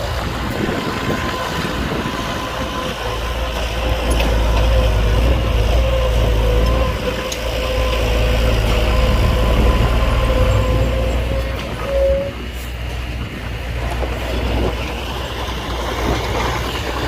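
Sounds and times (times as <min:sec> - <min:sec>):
diesel machinery engine rumble: 0:00.0 - 0:17.0.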